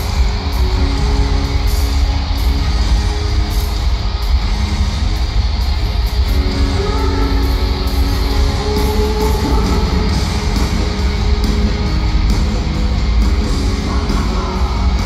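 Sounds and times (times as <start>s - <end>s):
electric guitar: 0.0s - 15.0s
live rock band: 0.0s - 15.0s.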